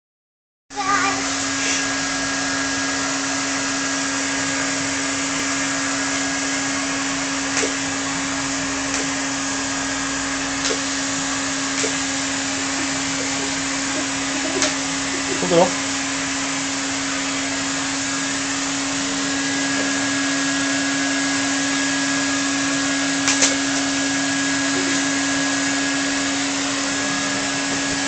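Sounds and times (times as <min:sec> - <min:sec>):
vacuum cleaner running: 0:00.8 - 0:28.0.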